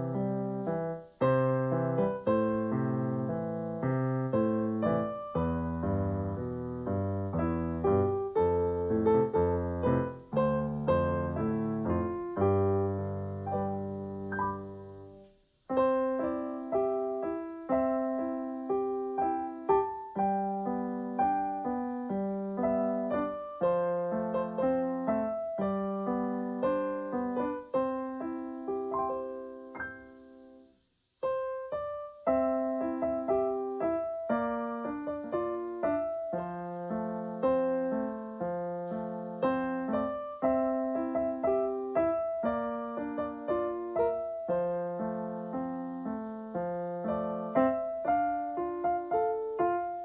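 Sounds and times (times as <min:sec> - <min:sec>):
piano playing: 0:00.0 - 0:50.0.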